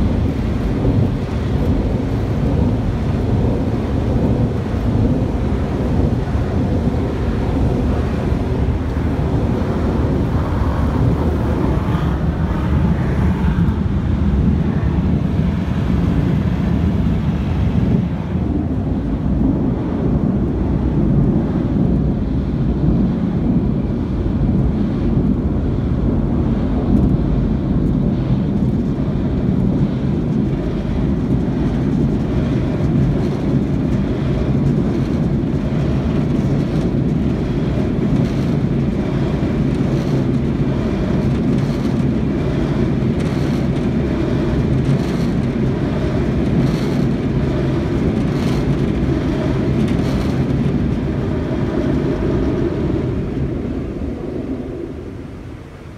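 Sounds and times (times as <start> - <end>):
car wash machinery rumbling: 0.0 - 55.9.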